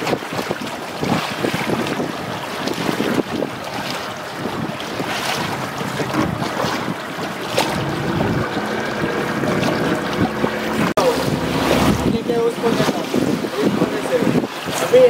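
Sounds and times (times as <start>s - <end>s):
water rushing along hull: 0.0s - 15.0s
wind on microphone: 0.0s - 15.0s
boat engine hum: 1.8s - 15.0s.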